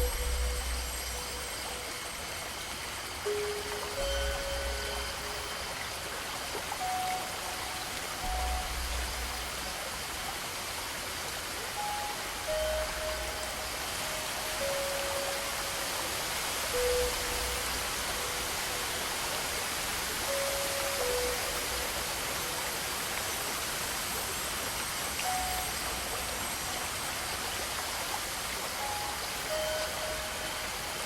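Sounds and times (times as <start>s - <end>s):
rushing stream water: 0.0s - 31.0s.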